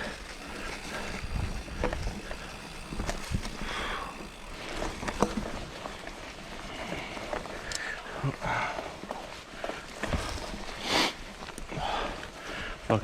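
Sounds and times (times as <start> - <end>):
bike rattling over rocks: 0.0 - 13.0
bike tyre noise on dirt: 0.0 - 13.0.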